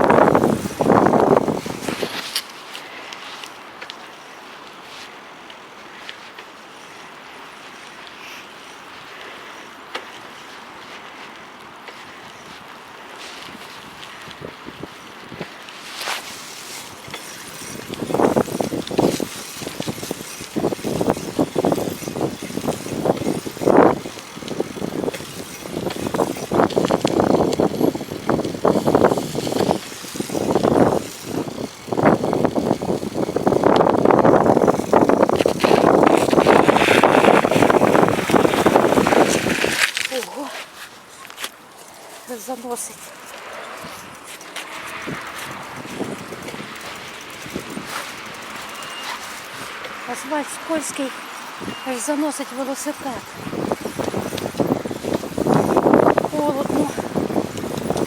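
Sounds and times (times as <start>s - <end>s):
strong wind: 0.0s - 3.1s, 12.0s - 52.0s, 52.9s - 58.0s
bicycle tyres rolling on snow: 0.0s - 58.0s.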